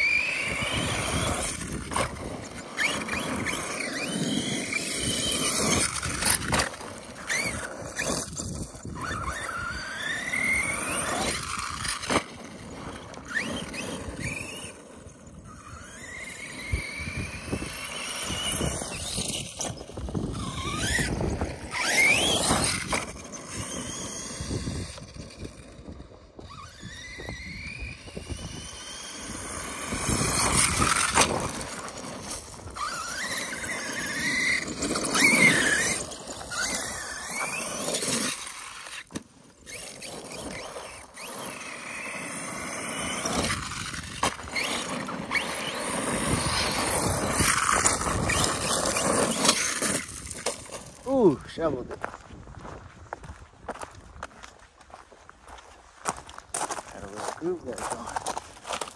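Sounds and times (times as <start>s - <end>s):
electric motor whining: 0.0s - 51.2s.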